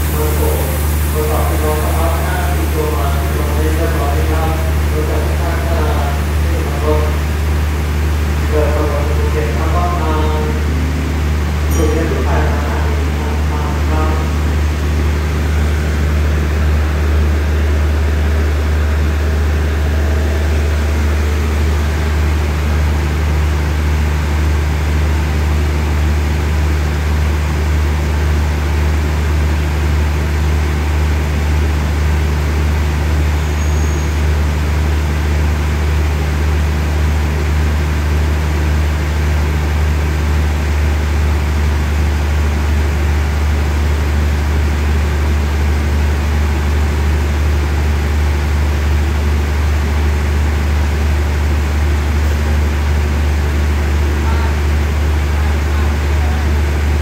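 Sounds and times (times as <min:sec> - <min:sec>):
idling train engine hum: 0:00.0 - 0:57.0.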